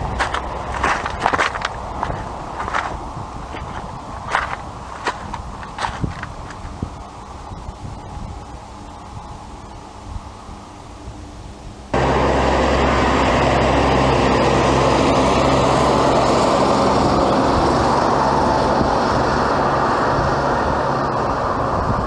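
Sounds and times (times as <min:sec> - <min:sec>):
vehicle engine running: 0:00.0 - 0:09.8, 0:11.9 - 0:22.0
road noise rumbling: 0:00.0 - 0:22.0.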